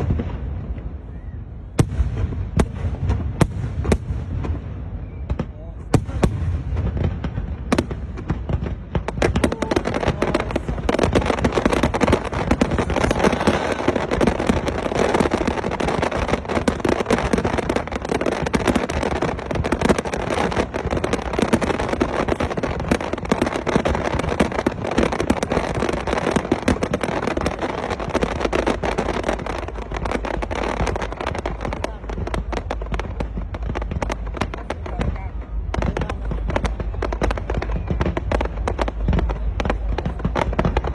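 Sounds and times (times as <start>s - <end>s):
fireworks bangs: 0.0s - 40.9s
fireworks crackling: 0.0s - 40.9s.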